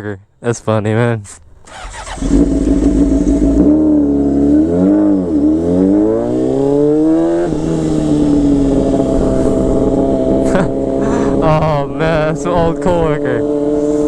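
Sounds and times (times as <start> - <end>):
motorcycle engine accelerating: 0.4 - 14.0.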